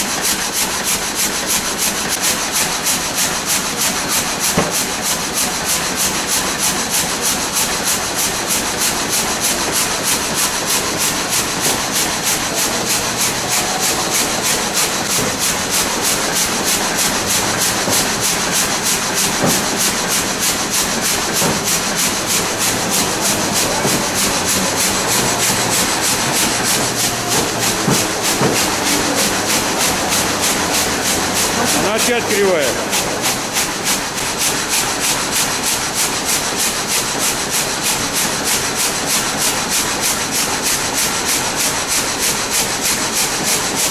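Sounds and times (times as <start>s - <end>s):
wood being rasped: 0.0s - 43.9s.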